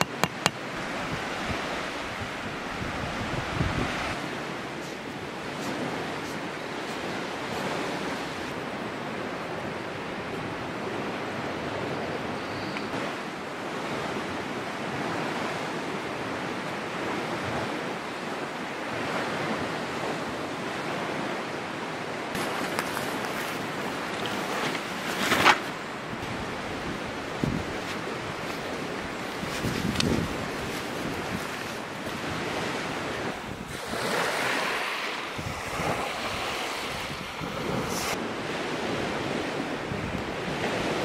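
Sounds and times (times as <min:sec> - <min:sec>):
waves washing onto shore: 0:00.0 - 0:41.0
wind: 0:00.0 - 0:41.0.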